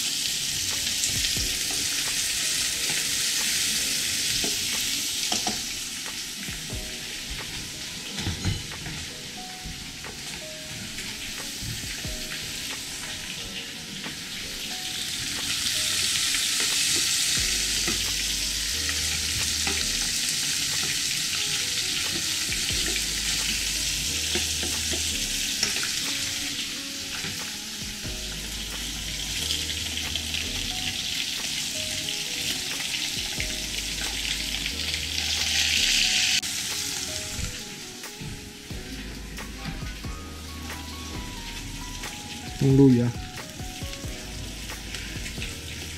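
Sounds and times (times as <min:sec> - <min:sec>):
onions sizzling in hot oil: 0:00.0 - 0:45.9.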